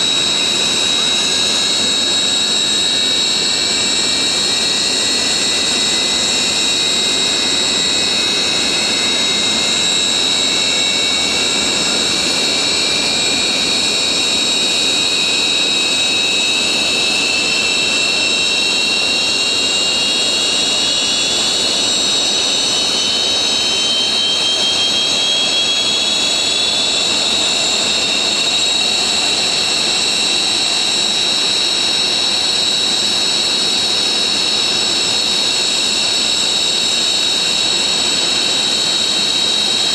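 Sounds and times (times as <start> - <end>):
jet engine spooling up: 0.0 - 39.9
jet engines high whine: 0.0 - 39.9.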